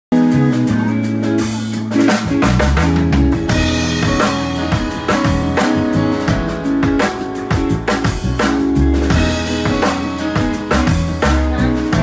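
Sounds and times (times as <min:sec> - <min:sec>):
live band playing: 0:00.1 - 0:12.0
bass drum and snare hits: 0:02.1 - 0:12.0.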